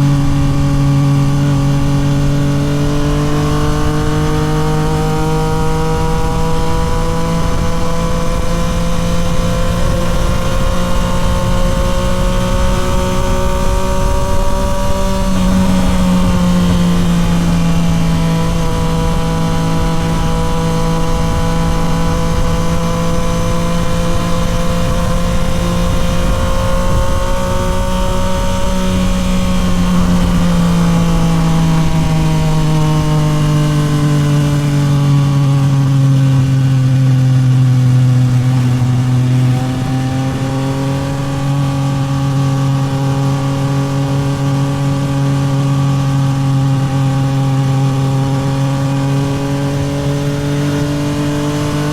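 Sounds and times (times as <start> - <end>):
motorcycle engine while riding: 0.0 - 51.9.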